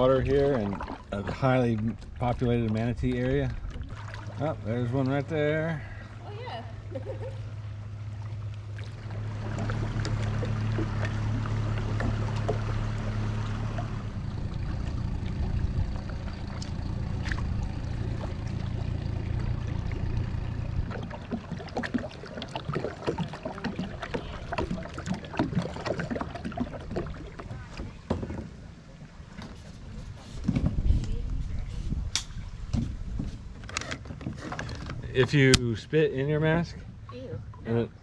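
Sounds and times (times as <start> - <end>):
boat motor hum: 0.0 - 38.0
paddle splashing water: 0.0 - 38.0.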